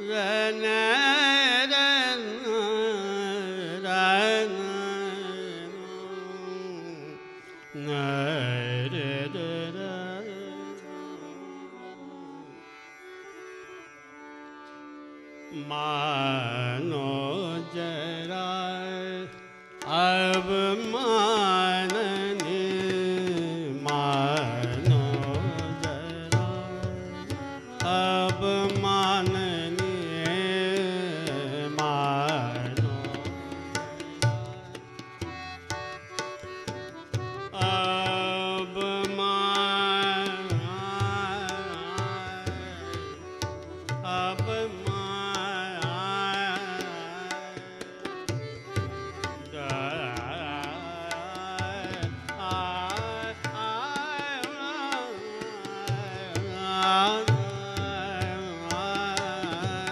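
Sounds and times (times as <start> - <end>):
person singing ornamented phrases: 0.0 - 12.5, 15.5 - 34.8, 37.4 - 59.9
tanpura drone: 0.0 - 59.9.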